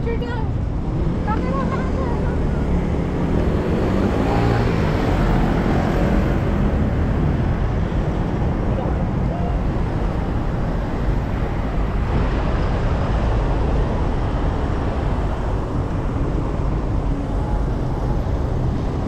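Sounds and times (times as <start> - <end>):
city street rumble: 0.0 - 19.0.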